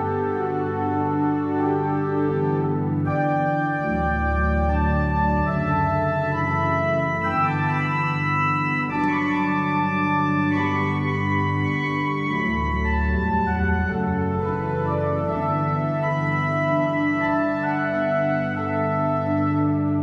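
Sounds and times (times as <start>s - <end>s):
church organ playing chords: 0.0s - 20.0s
deep organ pedal bass notes: 0.0s - 20.0s.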